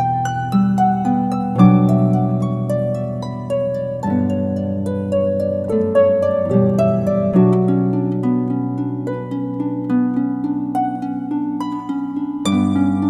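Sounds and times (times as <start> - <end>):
gentle instrumental music: 0.0 - 13.0.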